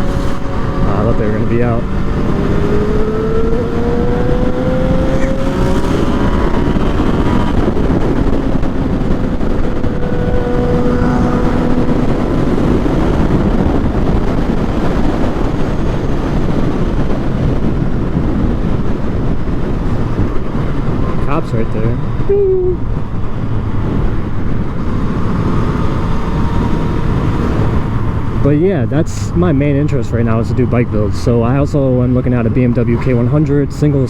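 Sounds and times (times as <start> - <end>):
motorcycle engine revving: 0.0 - 31.9
wind rush on microphone: 0.0 - 34.0.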